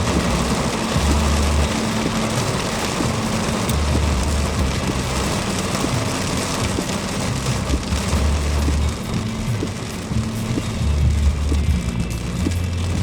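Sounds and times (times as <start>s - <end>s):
heavy rain hissing: 0.0s - 13.0s
low engine hum: 0.0s - 13.0s
tyres on wet road: 0.0s - 13.0s.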